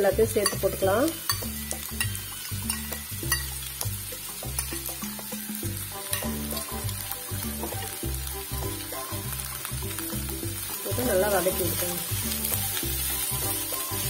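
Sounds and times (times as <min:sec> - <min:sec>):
background music with bass: 0:00.0 - 0:14.0
vegetables sizzling in oil: 0:00.0 - 0:14.0.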